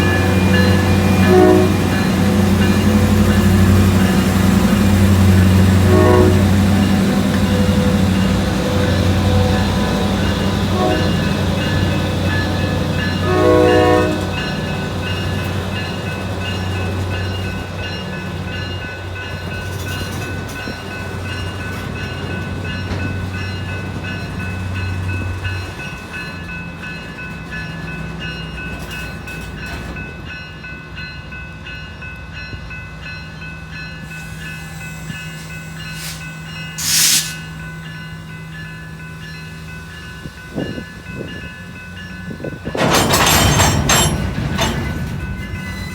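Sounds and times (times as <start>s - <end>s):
locomotive engine hum: 0.0s - 30.0s, 32.2s - 45.9s.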